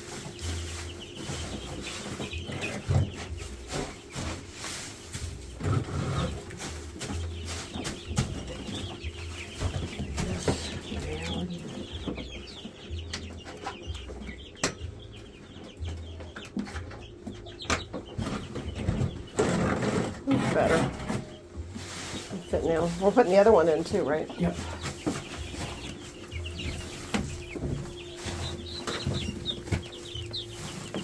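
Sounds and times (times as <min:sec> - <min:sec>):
chicks cheeping: 0:00.0 - 0:31.0.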